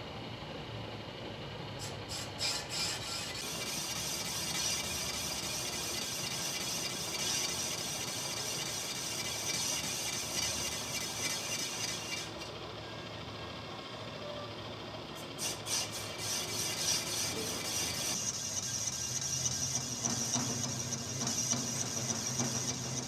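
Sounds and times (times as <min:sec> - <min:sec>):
metalworking machinery hiss: 0:01.8 - 0:23.0.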